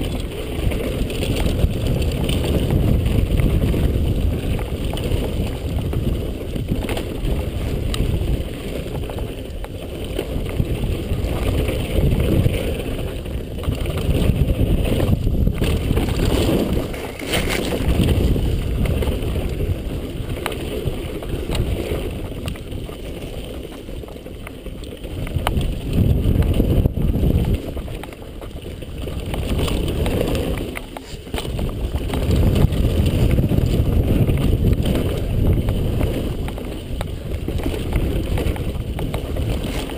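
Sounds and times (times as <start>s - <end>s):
tyres rumbling over dirt: 0.0s - 39.9s
wind buffeting microphone: 0.0s - 39.9s.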